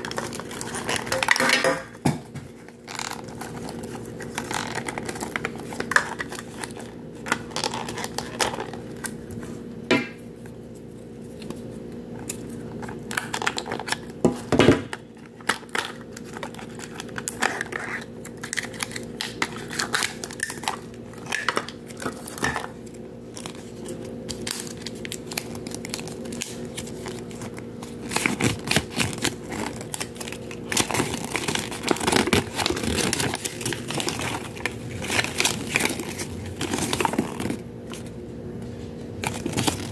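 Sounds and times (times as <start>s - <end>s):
wrappers crinkling and tearing: 0.0s - 9.4s, 10.6s - 38.1s, 39.0s - 39.9s
steady low hum: 0.0s - 39.9s.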